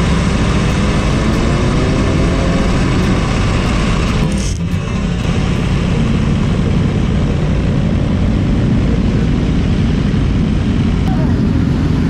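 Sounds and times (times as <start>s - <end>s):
motorcycle engine drone: 0.0s - 12.0s
wind noise: 0.0s - 12.0s.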